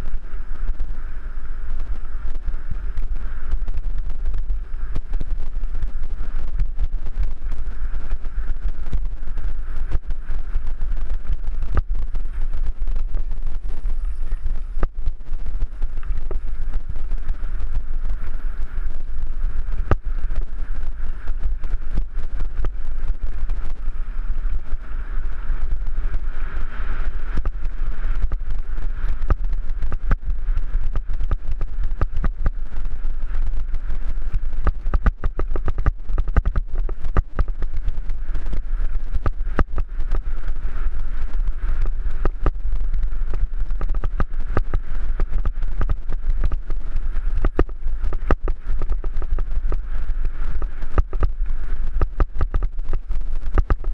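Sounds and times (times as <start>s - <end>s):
wind buffeting microphone: 0.0s - 53.9s
bike clicking and rattling: 0.1s - 53.9s.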